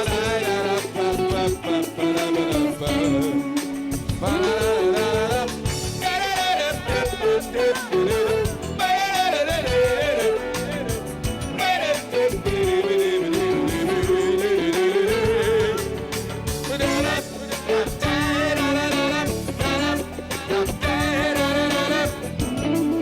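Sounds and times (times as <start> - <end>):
instrumental pop music: 0.0 - 23.0.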